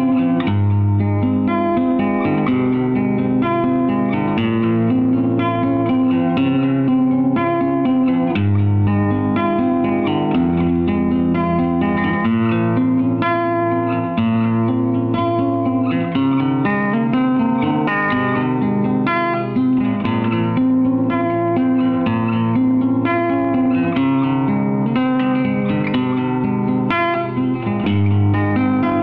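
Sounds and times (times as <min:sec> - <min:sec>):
plucked guitar music: 0:00.0 - 0:29.0.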